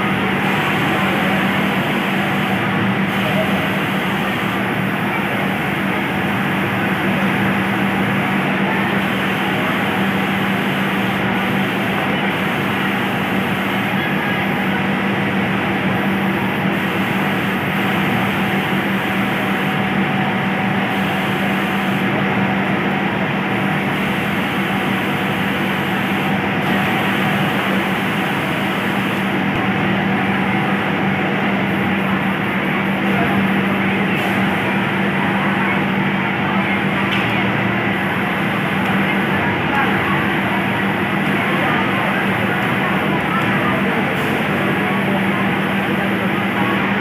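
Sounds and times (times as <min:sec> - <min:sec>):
industrial sewing machines running: 0:00.0 - 0:47.0.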